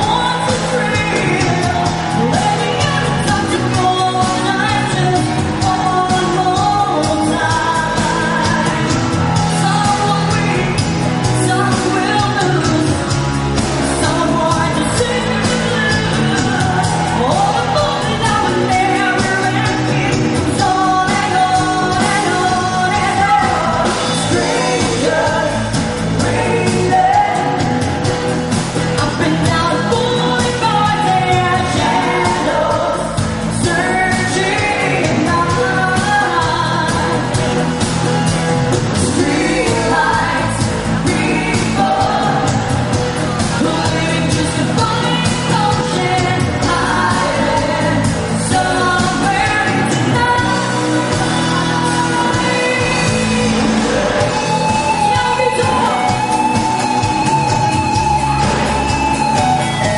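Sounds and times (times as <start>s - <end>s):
drum beats: 0.0s - 59.9s
live pop-rock band: 0.0s - 59.9s
person singing: 0.0s - 59.9s.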